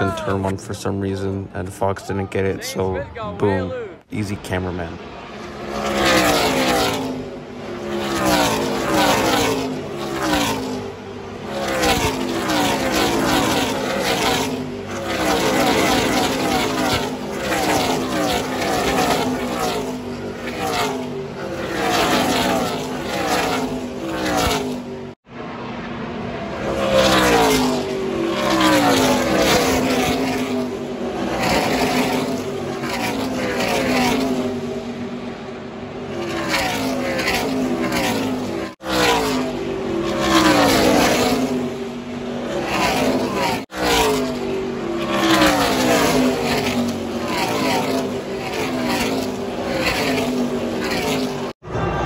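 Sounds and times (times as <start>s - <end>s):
race truck engines passing at speed: 0.0s - 52.0s.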